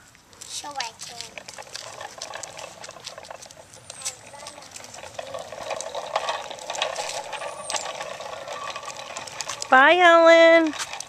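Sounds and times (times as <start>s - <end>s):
bicycle ticking and rattling: 0.4s - 11.0s.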